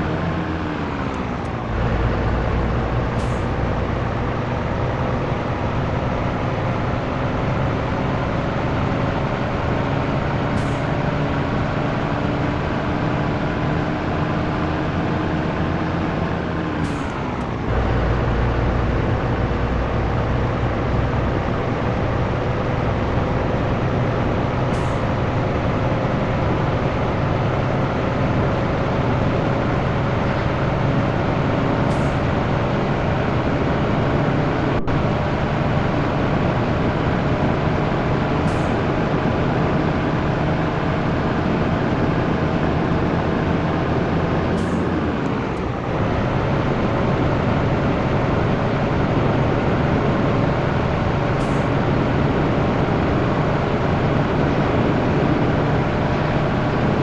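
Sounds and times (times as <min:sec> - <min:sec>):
heavy diesel truck engine driving: 0:00.0 - 0:57.0.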